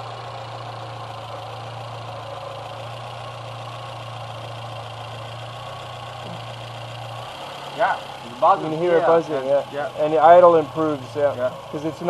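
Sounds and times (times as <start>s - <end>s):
car engine idling: 0.0s - 12.0s
valve buzzing: 0.0s - 12.0s.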